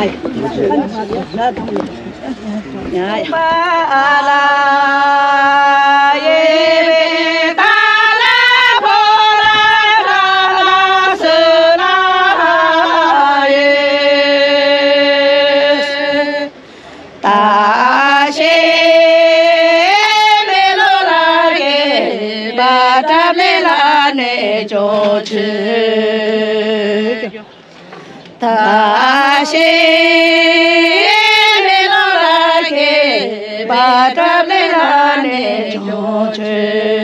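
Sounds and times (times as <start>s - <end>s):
woman singing slow song: 2.9s - 16.6s, 17.2s - 27.4s, 28.4s - 37.0s.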